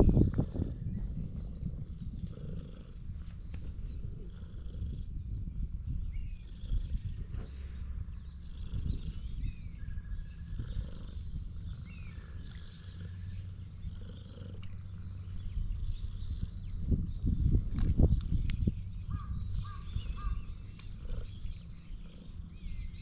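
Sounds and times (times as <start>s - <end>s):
cat purring: 0.0s - 18.0s, 20.0s - 23.0s.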